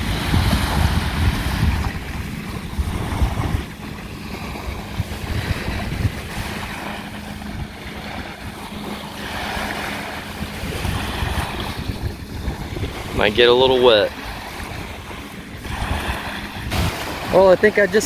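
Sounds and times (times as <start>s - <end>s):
waves lapping on shore: 0.0s - 18.0s
wind buffeting microphone: 0.0s - 18.0s.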